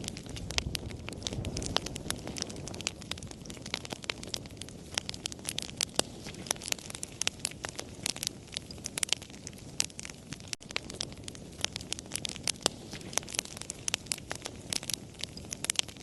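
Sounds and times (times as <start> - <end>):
campfire crackling and popping: 0.0 - 16.0
low rush of flames: 0.0 - 16.0.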